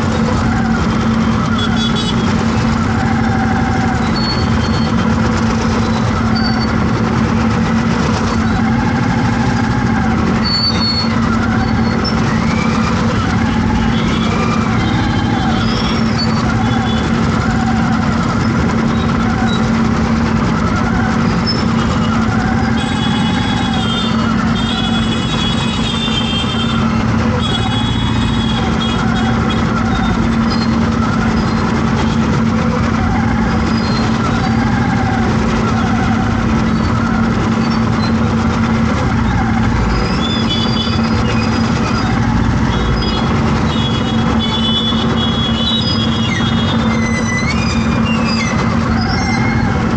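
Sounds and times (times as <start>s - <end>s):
road traffic engines: 0.0s - 49.9s.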